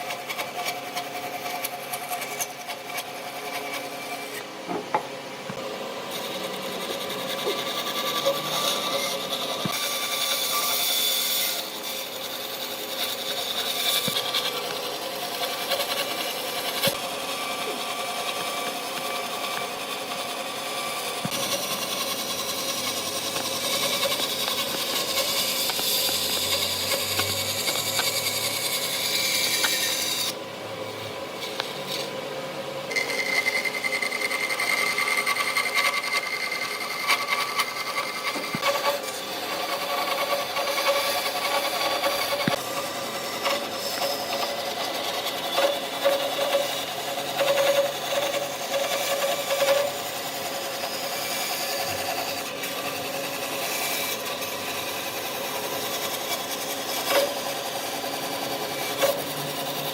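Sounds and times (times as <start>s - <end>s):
power tools whining on wood: 0.0s - 59.9s.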